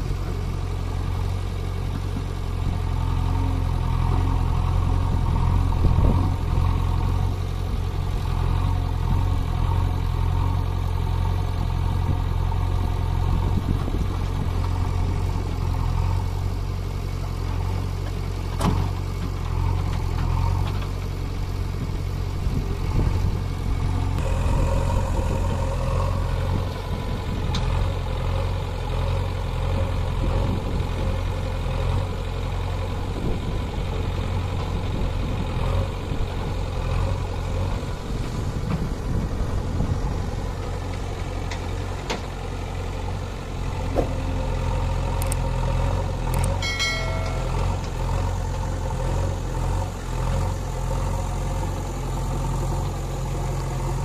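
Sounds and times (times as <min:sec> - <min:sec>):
backhoe diesel engine digging: 0:00.0 - 0:54.0
tractor diesel engine idling: 0:00.0 - 0:54.0.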